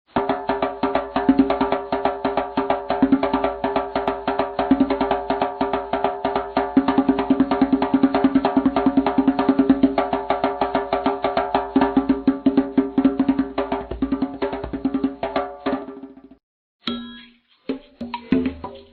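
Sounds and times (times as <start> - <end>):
fast drumming: 0.1 - 16.4.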